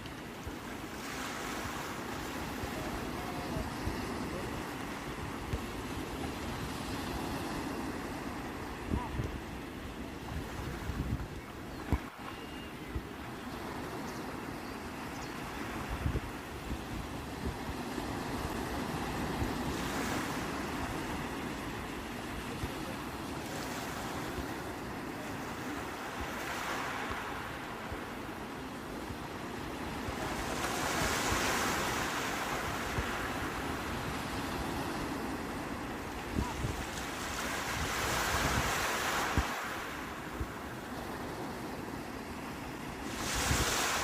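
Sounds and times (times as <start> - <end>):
sea waves breaking on shore: 0.0 - 44.0.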